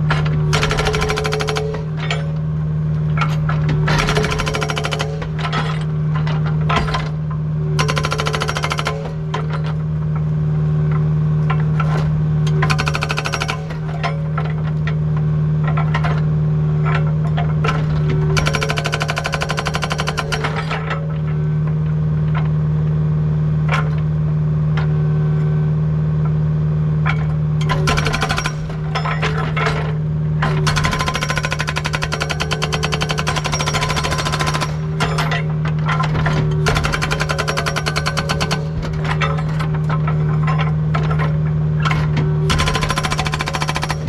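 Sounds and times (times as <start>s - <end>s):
hydraulic breaker pounding rock: 0.0s - 2.4s, 3.0s - 10.2s, 10.9s - 22.5s, 27.0s - 44.0s
excavator engine running: 0.0s - 44.0s.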